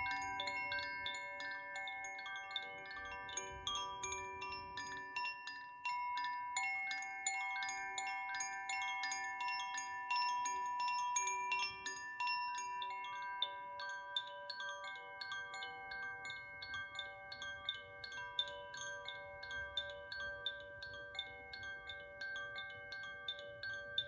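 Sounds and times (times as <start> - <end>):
wind chime ringing: 0.0 - 24.0.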